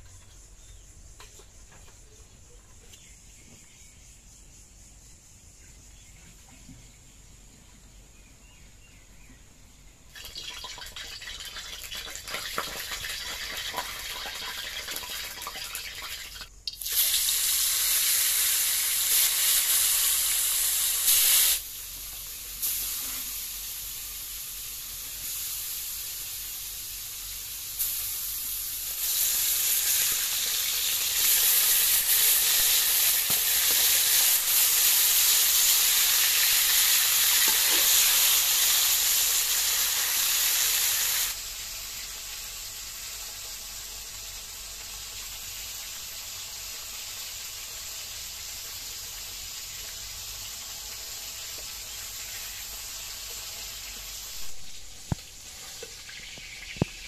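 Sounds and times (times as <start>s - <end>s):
fish sizzling in hot oil: 10.1s - 57.0s.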